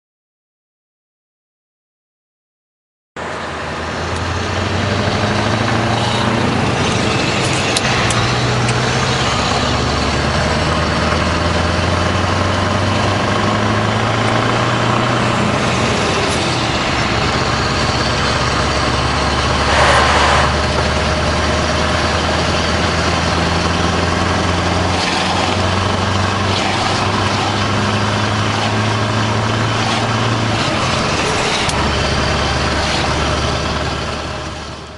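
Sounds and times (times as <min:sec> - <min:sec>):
rush of noise: 0:03.2 - 0:34.9
truck diesel engine running: 0:03.2 - 0:34.9.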